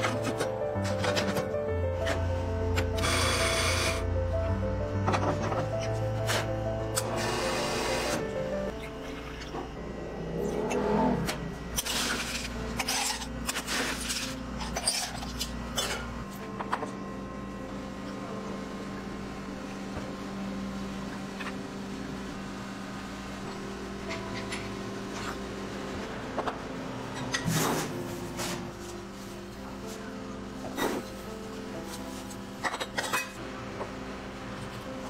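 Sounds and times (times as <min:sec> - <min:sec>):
machine hum: 0:00.0 - 0:30.7.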